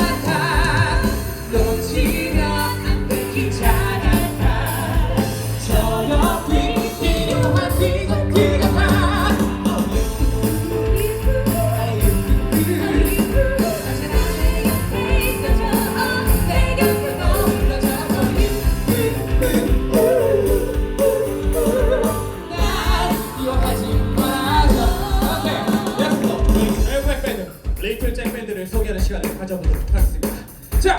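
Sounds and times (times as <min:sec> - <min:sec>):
person singing: 0:00.0 - 0:27.0
live band music: 0:00.0 - 0:30.9.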